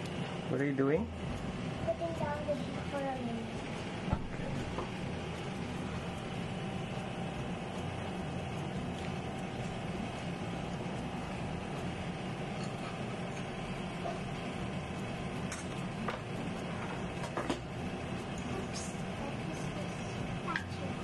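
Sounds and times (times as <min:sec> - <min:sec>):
kitchen hum and hiss: 0:00.0 - 0:21.0.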